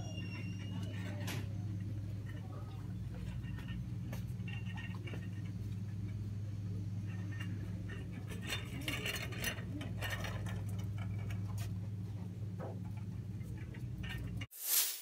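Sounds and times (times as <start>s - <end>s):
low hum: 0.0s - 14.5s.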